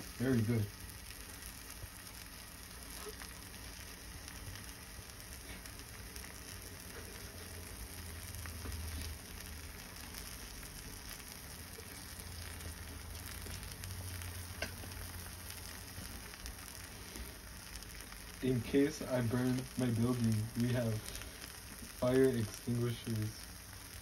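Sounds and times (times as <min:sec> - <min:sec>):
quesadilla sizzling in frying pan: 0:00.0 - 0:24.0
small crackles: 0:00.0 - 0:24.0.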